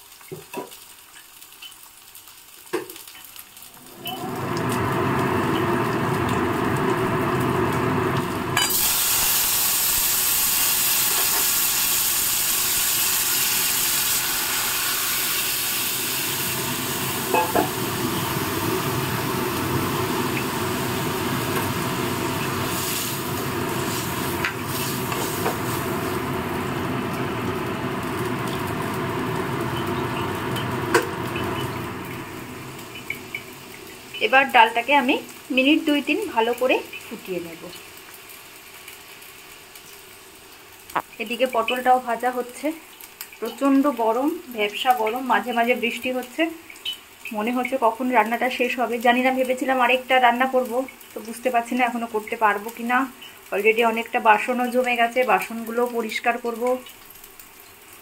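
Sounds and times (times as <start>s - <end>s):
loud steady sizzle: 0.0s - 58.0s
spices sizzling in hot oil: 0.0s - 58.0s.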